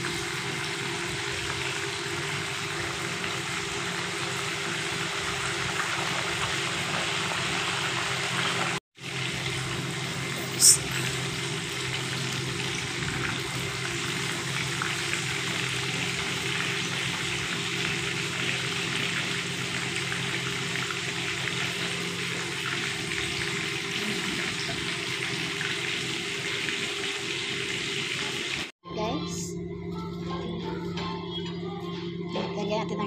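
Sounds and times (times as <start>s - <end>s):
fish sizzling in hot oil: 0.0s - 28.7s.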